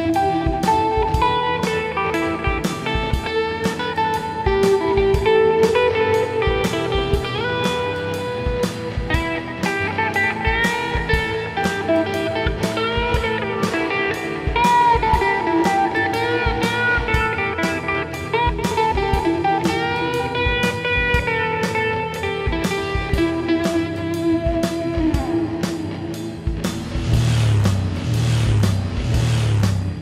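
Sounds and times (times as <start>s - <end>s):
electric guitar bending notes: 0.0s - 30.0s
steady drum beat: 0.0s - 30.0s.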